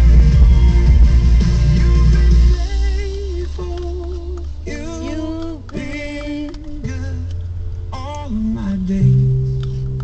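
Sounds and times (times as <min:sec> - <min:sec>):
music with person singing long notes: 0:00.0 - 0:10.0.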